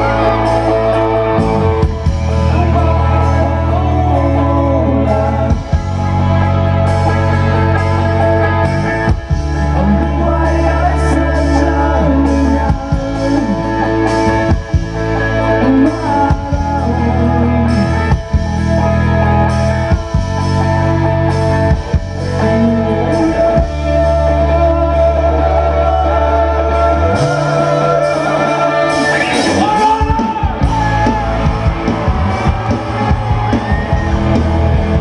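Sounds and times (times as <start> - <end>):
person singing: 0.0 - 18.5, 22.2 - 35.0
live rock band playing: 0.0 - 35.0.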